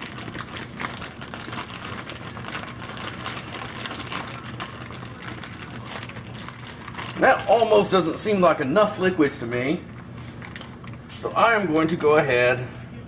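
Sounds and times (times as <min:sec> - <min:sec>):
plastic bag crinkling: 0:00.0 - 0:12.0
low steady hum: 0:00.0 - 0:13.0.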